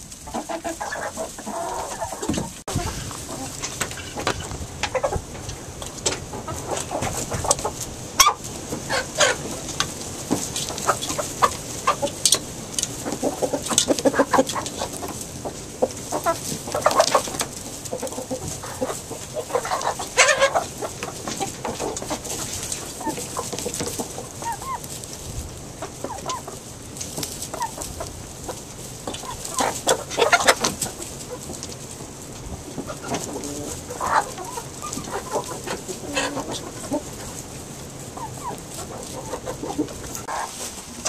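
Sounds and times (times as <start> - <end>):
hens clucking: 0.0 - 41.0.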